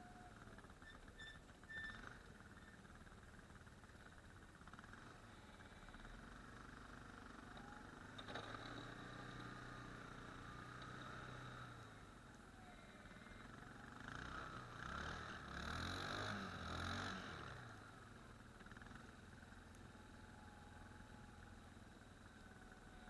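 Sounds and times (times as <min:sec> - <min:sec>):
faint engine revving: 0:00.0 - 0:23.0.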